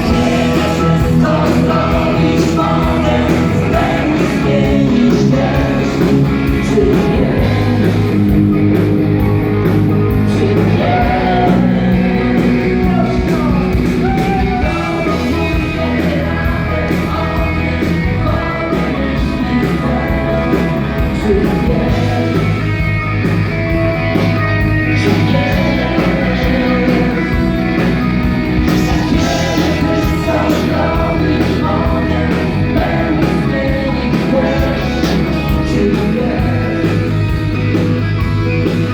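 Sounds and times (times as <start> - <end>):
live band playing rock ballad: 0.0 - 38.9.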